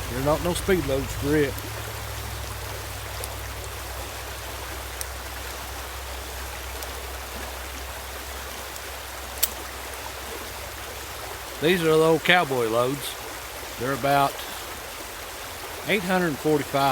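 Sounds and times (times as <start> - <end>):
background hiss with low hum: 0.0 - 16.9.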